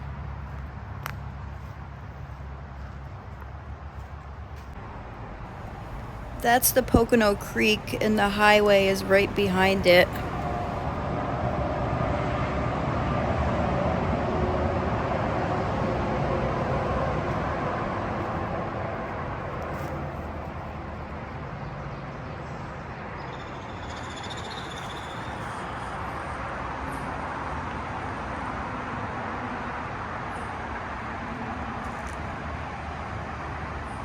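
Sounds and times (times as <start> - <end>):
highway traffic drone: 0.0 - 34.0.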